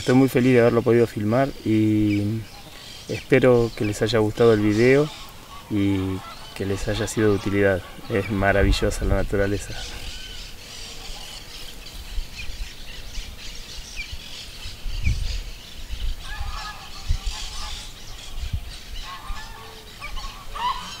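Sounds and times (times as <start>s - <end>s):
lower calls of larger birds: 0.0s - 21.0s.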